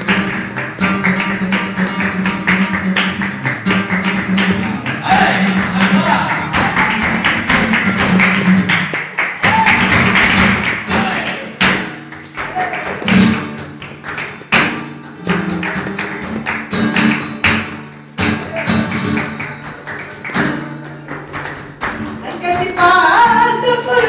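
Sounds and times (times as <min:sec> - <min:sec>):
acoustic guitar playing: 0:00.0 - 0:24.0
rhythmic hand-clapping: 0:00.0 - 0:24.0.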